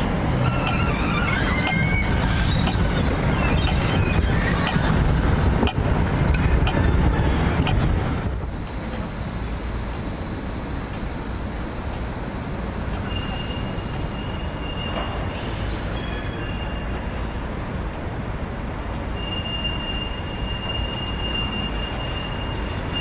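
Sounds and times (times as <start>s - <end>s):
tram wheels squealing: 0.0s - 5.8s, 6.4s - 17.6s, 19.0s - 23.0s
tram rumble: 0.0s - 23.0s.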